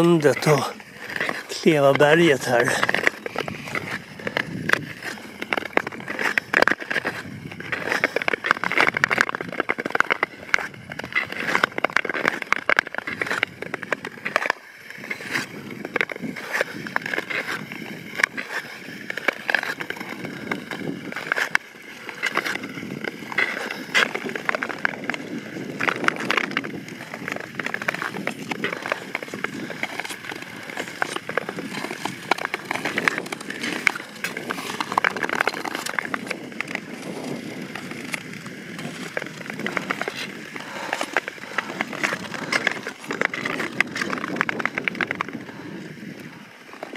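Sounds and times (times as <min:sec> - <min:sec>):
ice skate blades scraping on ice: 0:00.0 - 0:46.9.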